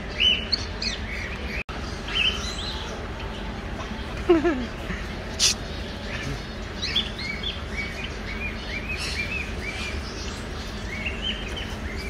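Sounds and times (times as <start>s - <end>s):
caged birds chirping: 0.0s - 12.0s
low background hum: 0.0s - 12.0s.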